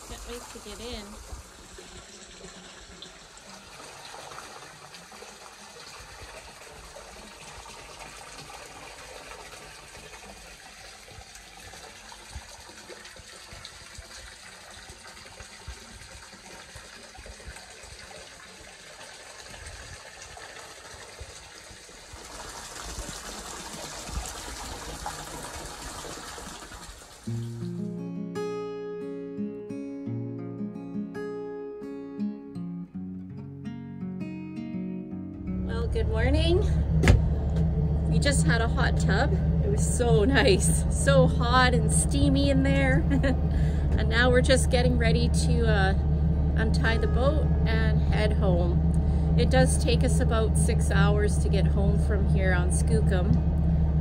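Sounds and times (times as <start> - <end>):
running water pouring into pool: 0.0 - 27.8, 35.7 - 54.0.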